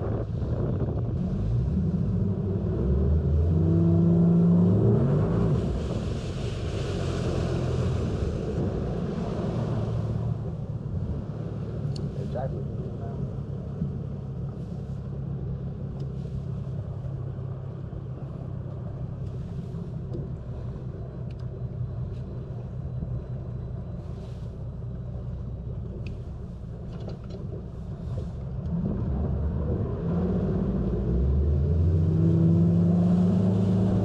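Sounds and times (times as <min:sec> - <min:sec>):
outboard motor running and revving: 0:00.0 - 0:34.0.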